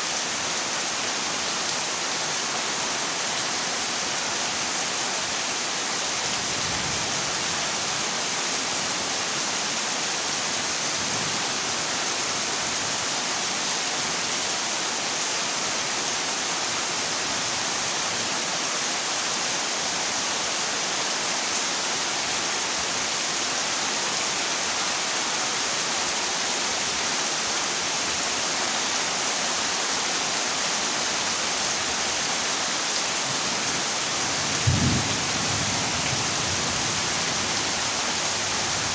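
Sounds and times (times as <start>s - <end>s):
heavy rain on a metal roof: 0.0s - 38.9s.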